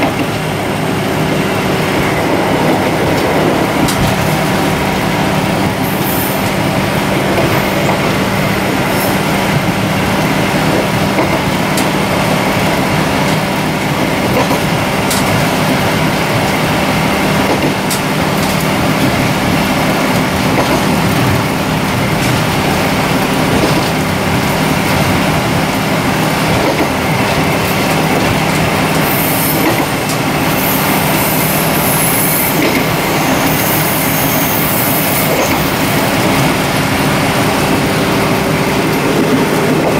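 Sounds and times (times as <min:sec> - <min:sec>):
diesel engine drone: 0:00.0 - 0:39.9
train wheel and rail noise: 0:00.0 - 0:39.9.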